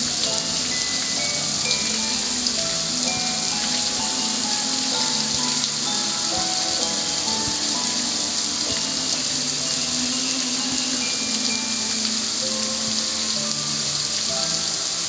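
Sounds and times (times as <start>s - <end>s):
background music: 0.0s - 15.0s
hose water spraying on metal: 0.0s - 15.0s.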